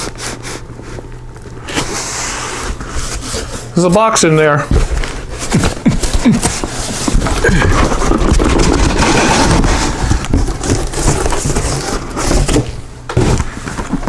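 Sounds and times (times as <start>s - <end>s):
cardboard rustling and scraping: 0.0s - 14.0s.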